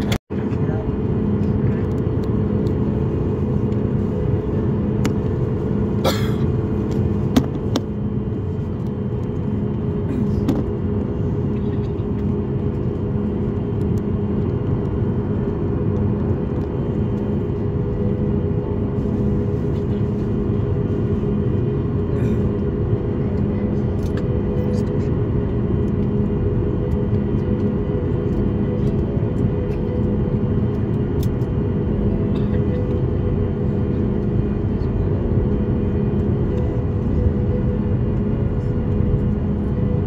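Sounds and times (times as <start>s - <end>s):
jet engines low rumble: 0.0s - 40.0s.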